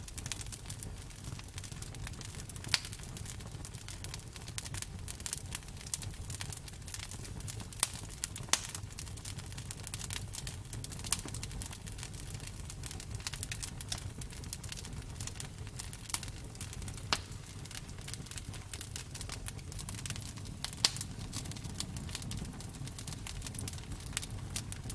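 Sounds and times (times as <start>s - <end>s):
bonfire crackling and popping: 0.0s - 24.9s
low rumble of burning fire: 0.0s - 24.9s.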